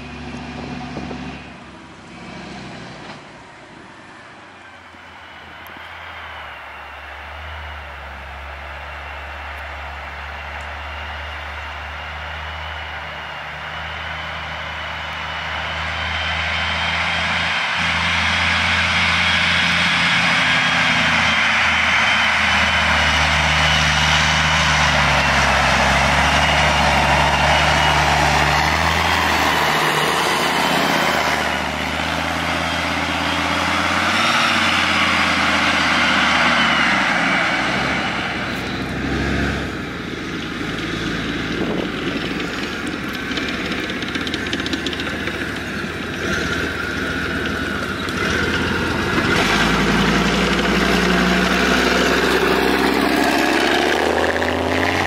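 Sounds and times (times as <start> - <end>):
tracked vehicle diesel engines: 0.0 - 55.0.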